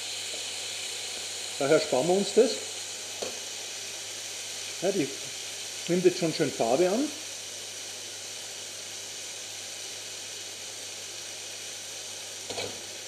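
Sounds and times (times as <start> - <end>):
food sizzling in pans: 0.0 - 13.0.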